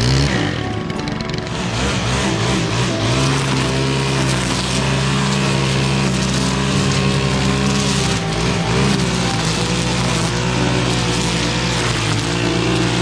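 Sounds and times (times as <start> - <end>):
engine revving up: 0.0 - 13.0.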